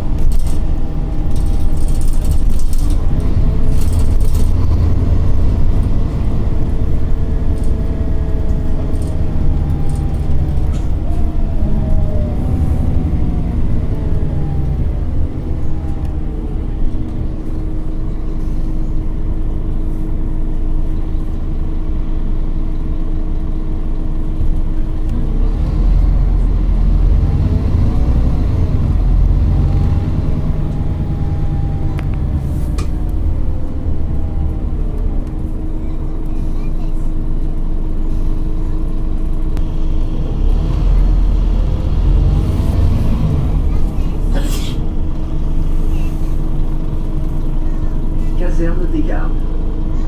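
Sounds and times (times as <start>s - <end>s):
bus diesel rumble and whine: 0.0s - 50.0s.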